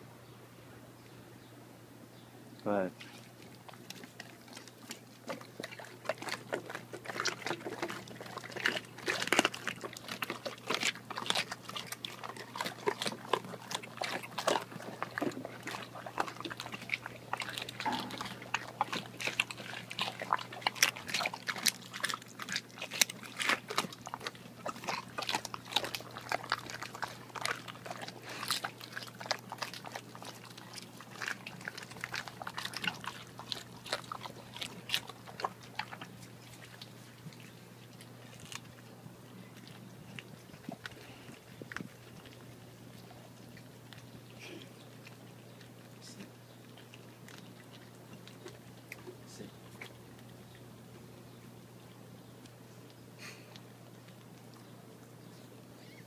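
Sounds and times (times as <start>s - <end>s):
dogs crunching bones: 2.9s - 56.0s.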